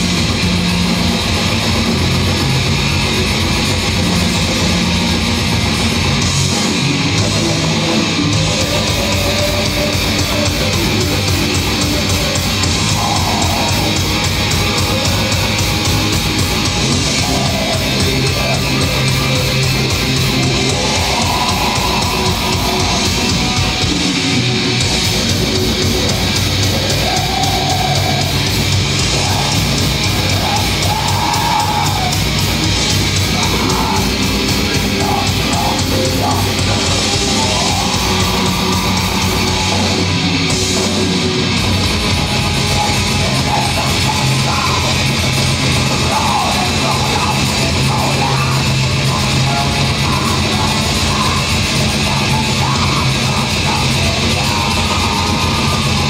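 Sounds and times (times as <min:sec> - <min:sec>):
heavy metal band playing: 0:00.0 - 0:56.0.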